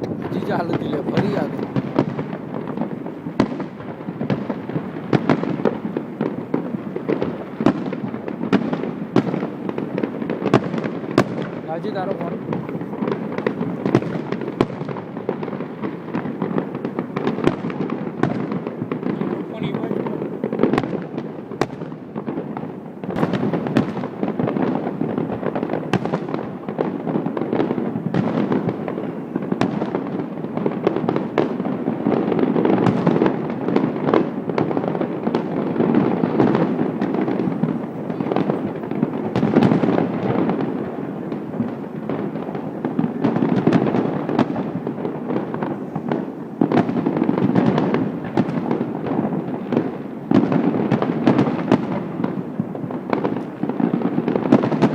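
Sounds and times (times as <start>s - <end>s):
fireworks banging: 0.0s - 54.9s.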